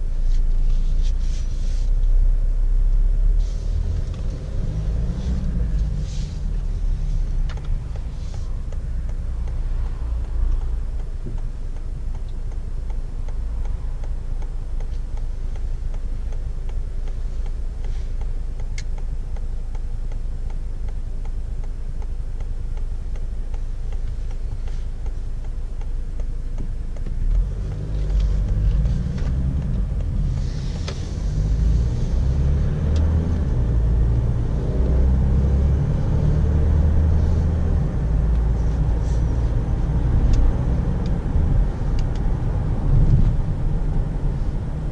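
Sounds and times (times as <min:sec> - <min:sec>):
road noise: 0:00.0 - 0:44.9
car engine accelerating: 0:02.0 - 0:44.9.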